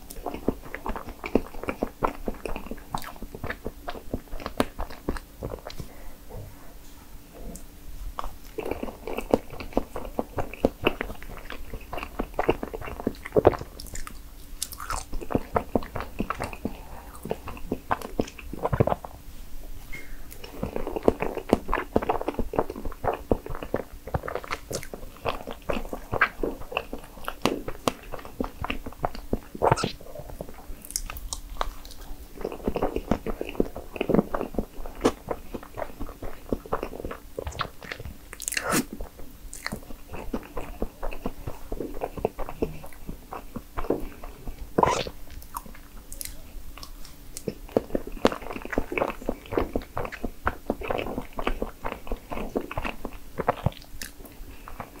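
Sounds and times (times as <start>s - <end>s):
wet chewing mouth sounds: 0.0s - 6.6s, 7.4s - 19.2s, 20.3s - 55.0s.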